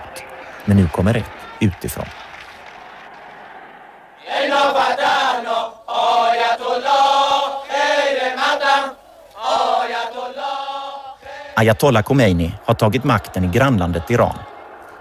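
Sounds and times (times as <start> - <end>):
crowd chanting: 0.0 - 15.0.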